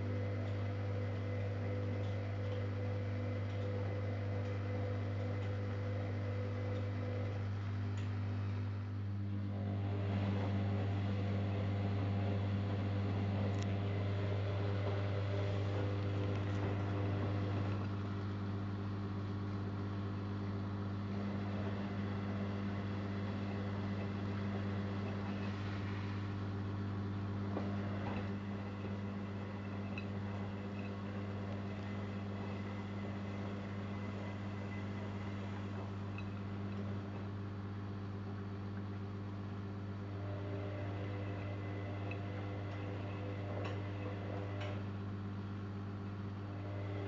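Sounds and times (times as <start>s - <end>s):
washer-dryer motor hum: 0.0s - 47.0s.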